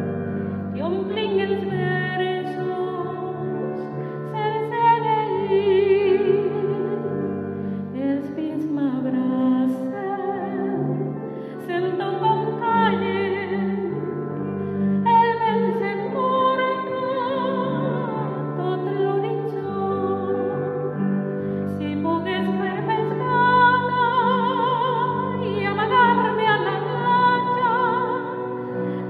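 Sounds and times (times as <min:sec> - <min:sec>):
woman singing with vibrato: 0:00.8 - 0:07.2, 0:08.0 - 0:14.4, 0:15.0 - 0:20.9, 0:21.7 - 0:29.0.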